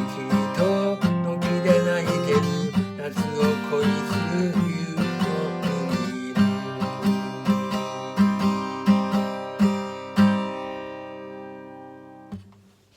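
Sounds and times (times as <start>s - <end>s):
acoustic guitar strumming: 0.0s - 12.5s.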